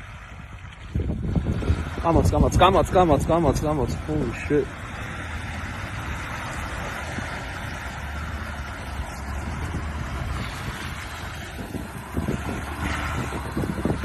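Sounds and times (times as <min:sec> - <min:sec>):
engine running steadily: 0:00.0 - 0:14.0
wind noise on microphone: 0:00.0 - 0:14.0.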